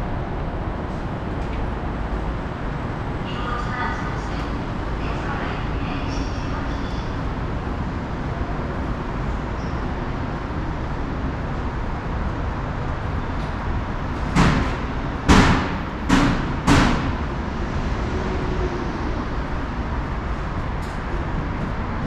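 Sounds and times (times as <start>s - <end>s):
traffic and city noise: 0.0s - 22.0s.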